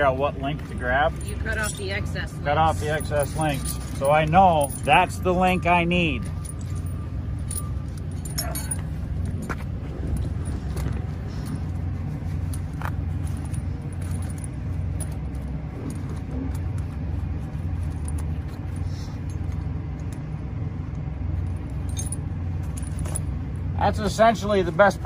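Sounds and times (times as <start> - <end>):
snow chain links clinking: 0.0 - 16.9, 17.6 - 20.3, 21.4 - 24.5
truck idling: 0.0 - 25.0.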